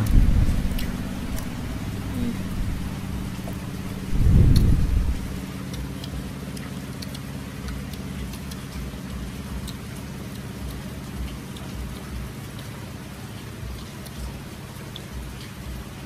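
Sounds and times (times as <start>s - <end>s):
steady low hum: 0.0s - 15.9s
drips ticking: 0.0s - 16.0s
light rain falling: 0.0s - 16.0s.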